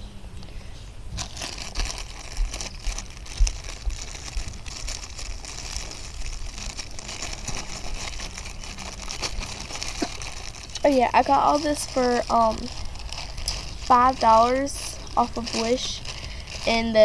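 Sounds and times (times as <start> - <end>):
plastic packaging crinkling: 1.2 - 17.0.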